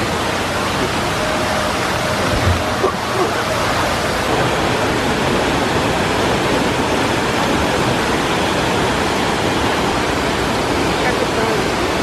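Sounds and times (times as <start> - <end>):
water cascading down rock: 0.0 - 12.0.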